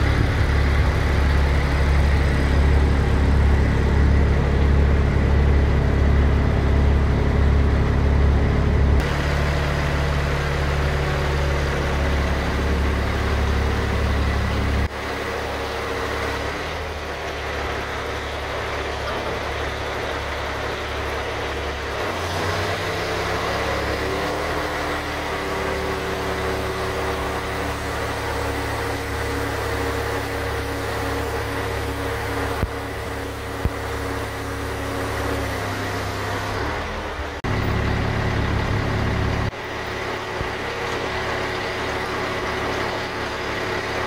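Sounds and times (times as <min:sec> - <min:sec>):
truck engine droning: 0:00.0 - 0:44.0.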